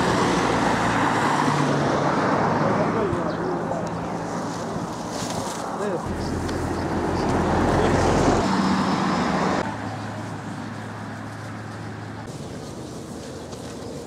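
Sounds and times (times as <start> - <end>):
vehicle passing close by: 0.0 - 12.7
steady traffic: 0.0 - 14.0.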